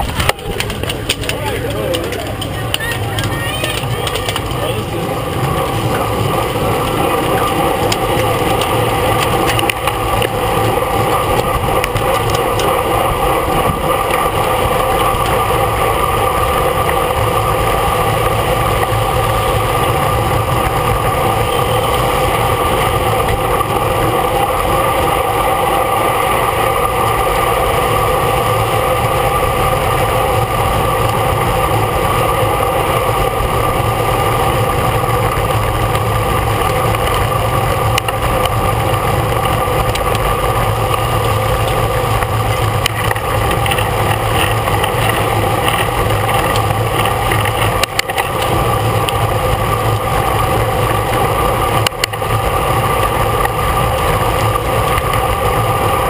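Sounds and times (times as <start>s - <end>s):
constant hum: 0.0s - 56.0s
low rumble: 0.0s - 56.0s
wind and bicycle road noise: 0.0s - 56.0s.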